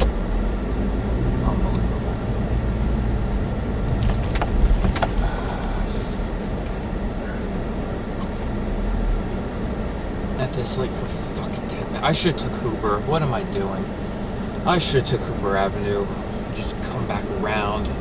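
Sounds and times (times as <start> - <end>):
car engine and cabin rumble: 0.0 - 18.0.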